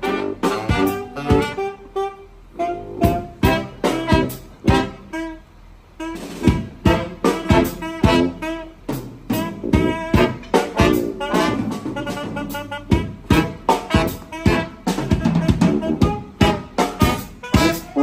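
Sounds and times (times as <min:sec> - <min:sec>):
brass band playing jazz: 0:00.0 - 0:18.0.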